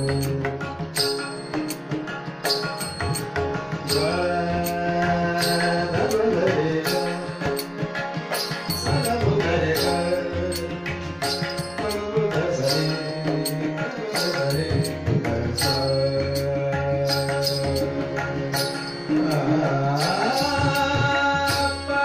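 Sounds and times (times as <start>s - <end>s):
harmonium chords: 0.0s - 22.0s
tabla drums rhythm: 0.0s - 22.0s.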